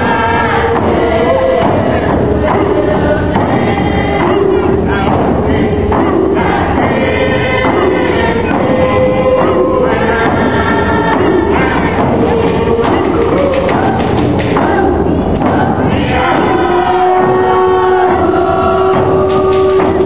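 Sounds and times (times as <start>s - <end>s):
group of voices singing: 0.0s - 20.0s.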